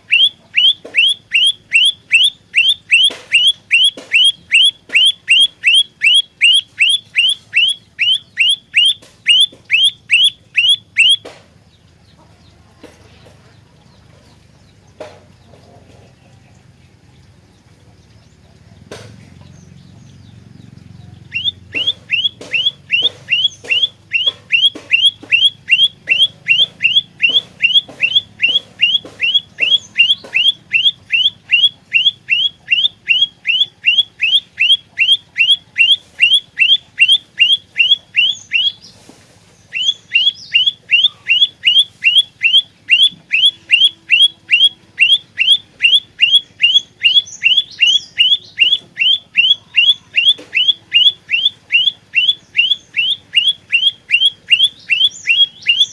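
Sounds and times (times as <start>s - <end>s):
bird song of sliding sharp notes: 0.0s - 11.4s, 18.4s - 55.9s.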